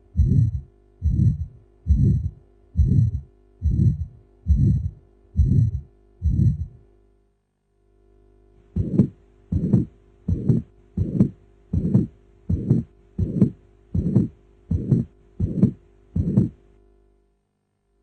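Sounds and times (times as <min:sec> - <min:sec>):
heartbeat: 0:00.0 - 0:06.8, 0:08.7 - 0:16.6
faint steady hum: 0:00.0 - 0:18.0.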